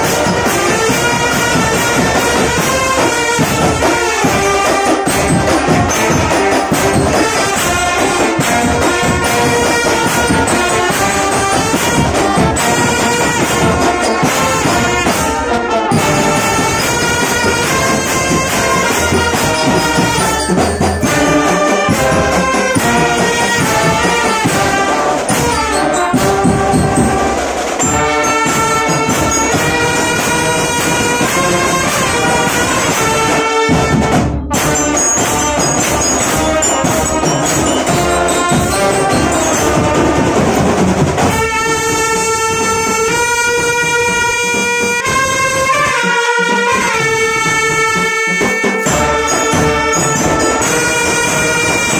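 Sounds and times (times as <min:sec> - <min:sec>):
brass section playing a tune: 0:00.0 - 0:51.9
drum beats: 0:00.0 - 0:51.9.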